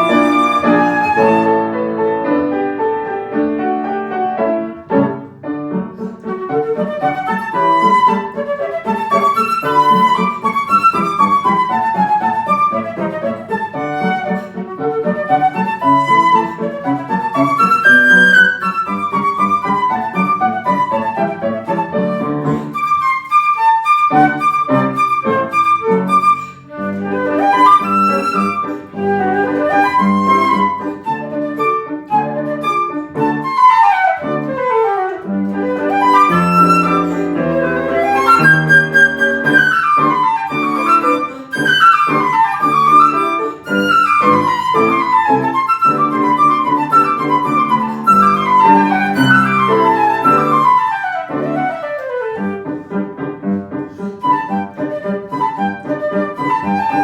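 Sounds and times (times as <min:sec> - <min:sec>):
flute runs: 0:00.0 - 0:01.7, 0:06.2 - 0:52.8, 0:53.9 - 0:57.0
piano chords: 0:00.0 - 0:57.0.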